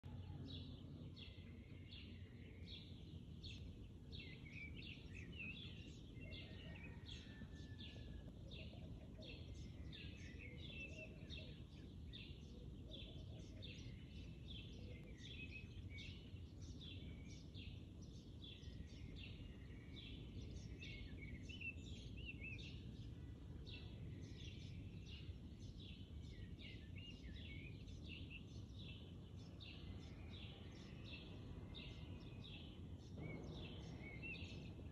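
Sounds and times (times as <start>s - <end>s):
faint birds chirping: 0.0s - 34.9s.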